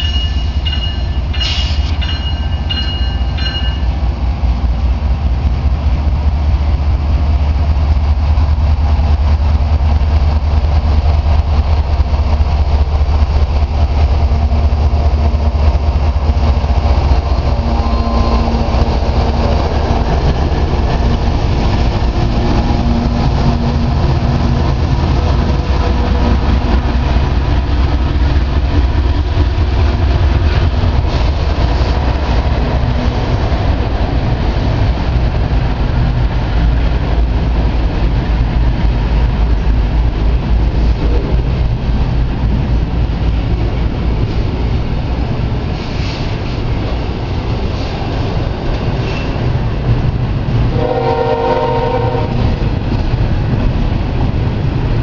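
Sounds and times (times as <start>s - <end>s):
diesel locomotive engine drone: 0.0s - 55.0s
train cars rumbling on rails: 0.0s - 55.0s.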